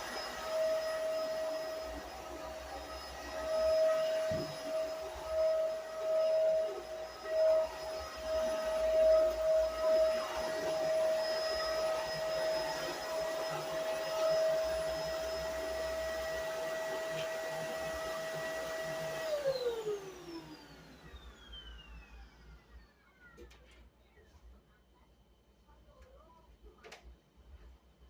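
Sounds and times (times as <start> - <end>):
vacuum cleaner running: 0.0 - 23.4.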